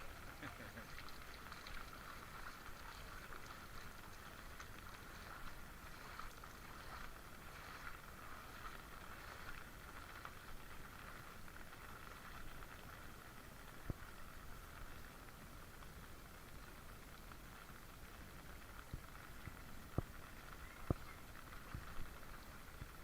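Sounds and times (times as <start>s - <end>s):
floodwater running: 0.0s - 23.0s.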